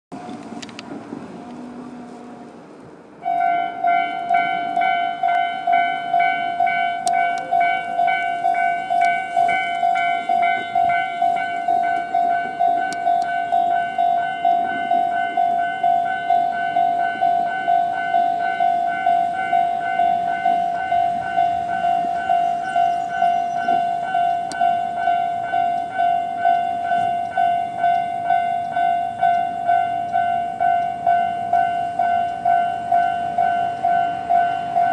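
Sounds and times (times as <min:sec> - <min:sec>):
level crossing warning bell: 0:03.2 - 0:34.9.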